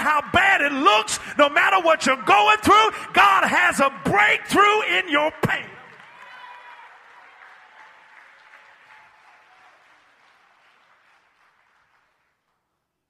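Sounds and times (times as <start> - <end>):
congregation applauding: 0.0 - 13.0.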